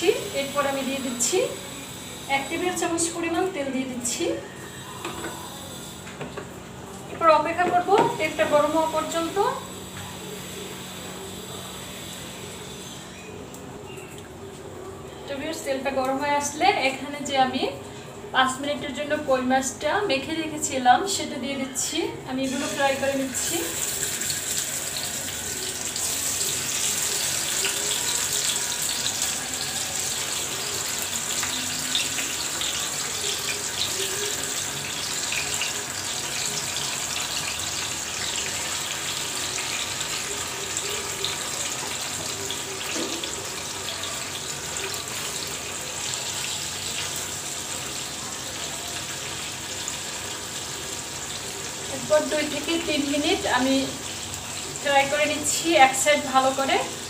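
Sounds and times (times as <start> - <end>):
fish sizzling in hot oil: 0.0 - 6.2, 7.9 - 13.3, 22.4 - 57.0.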